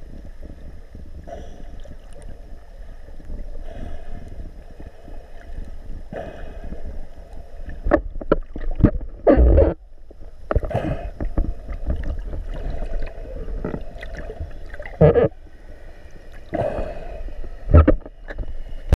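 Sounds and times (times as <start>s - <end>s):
underwater sloshing and gurgling: 0.0s - 19.0s.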